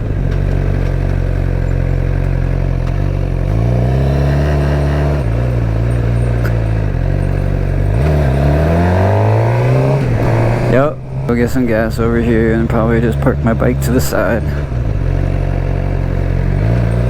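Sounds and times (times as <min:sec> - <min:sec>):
motorcycle engine while riding: 0:00.0 - 0:17.0.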